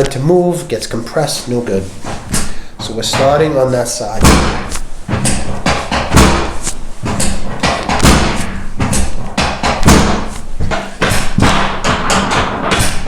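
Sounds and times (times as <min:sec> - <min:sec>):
rapid thumps: 0:01.8 - 0:13.0.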